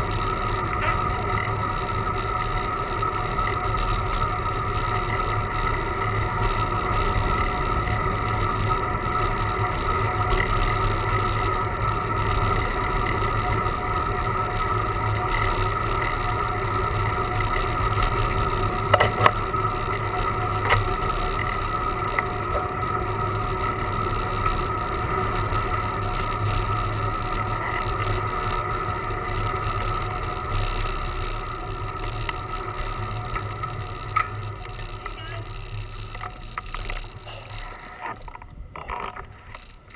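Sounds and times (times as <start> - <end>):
constant hum: 0.0 - 39.9.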